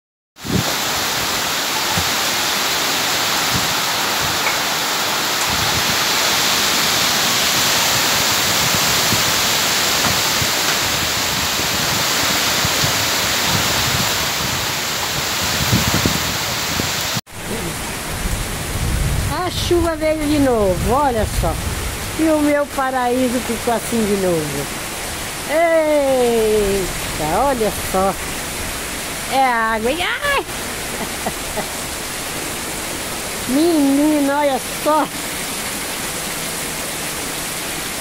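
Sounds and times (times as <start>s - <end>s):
heavy rain pouring: 0.4s - 38.0s.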